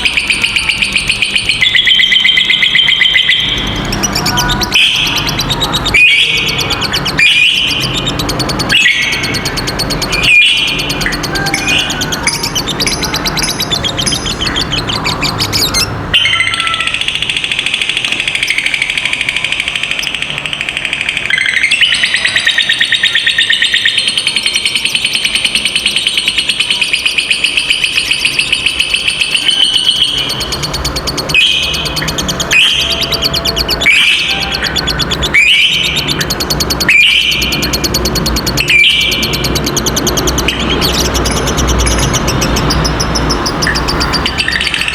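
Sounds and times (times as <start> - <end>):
lovebird sharp chirps: 0.0 - 44.9
lovebirds chattering trill: 0.0 - 44.9.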